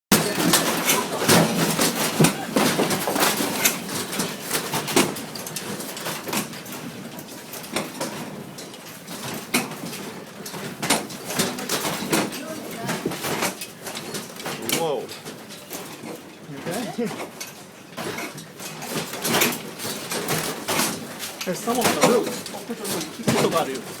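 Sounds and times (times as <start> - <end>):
objects rattling and knocking: 0.1 - 24.0.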